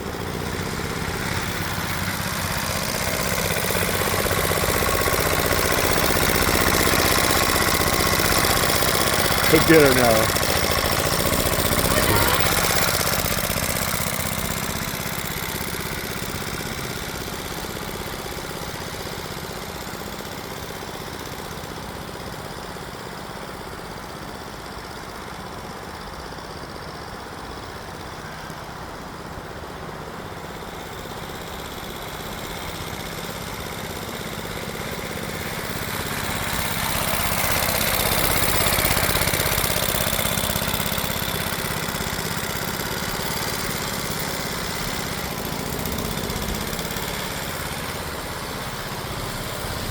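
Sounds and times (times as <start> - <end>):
small engine putt-putt: 0.0 - 49.9.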